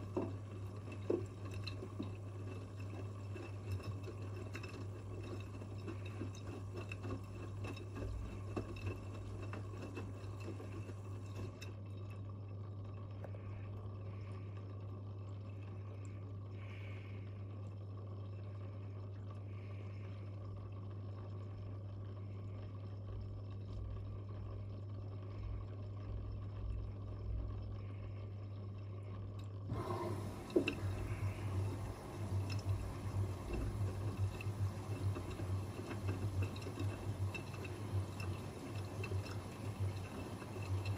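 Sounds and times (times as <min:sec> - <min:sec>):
water sloshing in washing machine: 0:00.0 - 0:28.0, 0:28.6 - 0:40.9
washing machine motor hum: 0:00.0 - 0:40.9.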